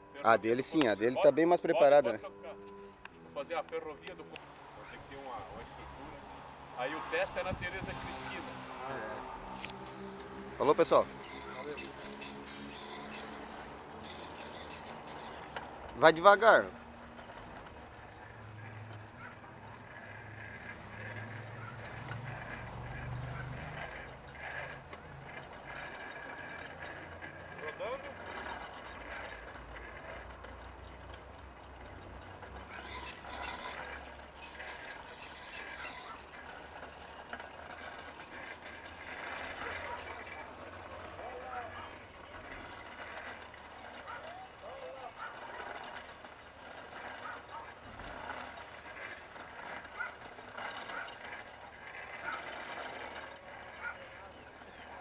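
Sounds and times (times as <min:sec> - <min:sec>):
rail bike rattling on rails: 0:00.0 - 0:02.3, 0:02.9 - 0:55.0.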